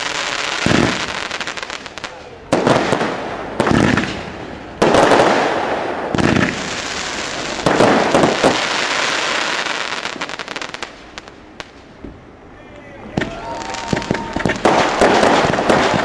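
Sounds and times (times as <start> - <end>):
fireworks bangs: 0.0 - 12.3, 13.0 - 16.0
fireworks crackling pops: 0.0 - 12.3, 13.2 - 16.0.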